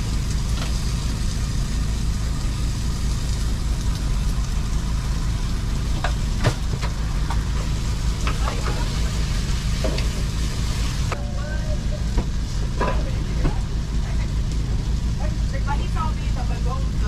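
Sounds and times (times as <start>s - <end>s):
machinery droning: 0.0s - 17.0s.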